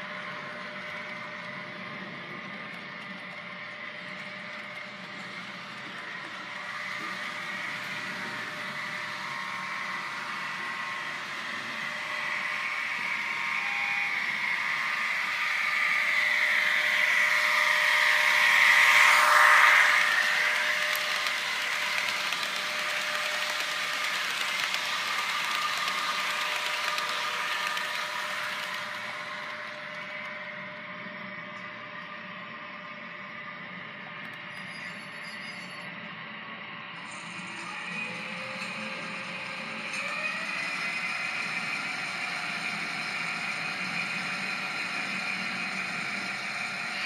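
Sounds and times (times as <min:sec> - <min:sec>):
model train motor whine: 0:00.0 - 0:30.7, 0:37.0 - 0:47.0
model train wheel noise: 0:00.0 - 0:30.7, 0:37.0 - 0:47.0.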